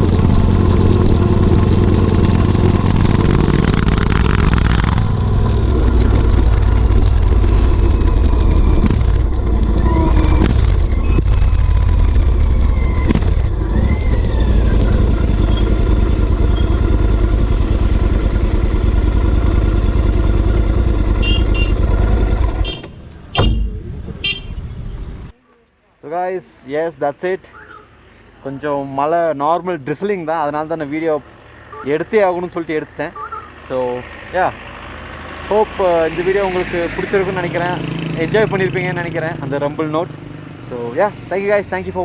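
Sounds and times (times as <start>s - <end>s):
motorcycle engine rumbling: 0.0s - 25.9s, 26.7s - 42.0s.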